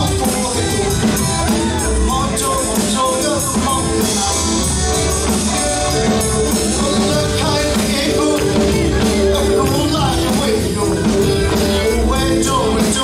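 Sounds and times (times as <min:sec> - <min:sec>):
man singing into a microphone: 0:00.0 - 0:05.4, 0:06.4 - 0:13.0
drum kit: 0:00.0 - 0:13.0
electric bass: 0:00.0 - 0:13.0
electric guitar: 0:00.0 - 0:13.0.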